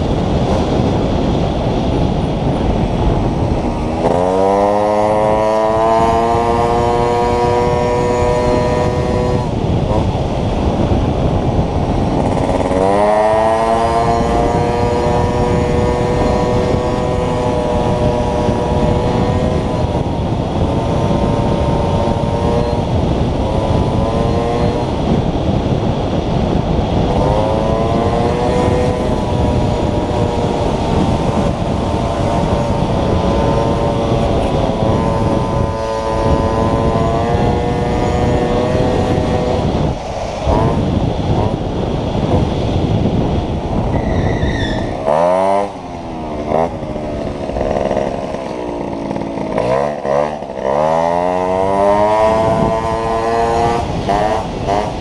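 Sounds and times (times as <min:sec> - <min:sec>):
moped engine running: 0:00.0 - 0:55.0.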